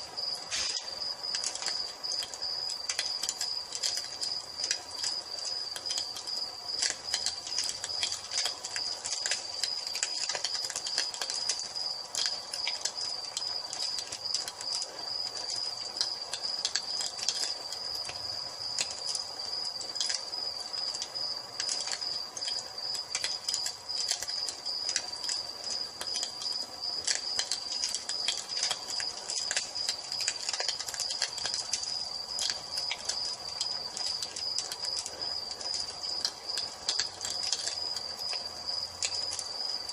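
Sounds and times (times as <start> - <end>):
crickets trilling: 0.0 - 39.9
wood fire crackling: 0.0 - 39.9.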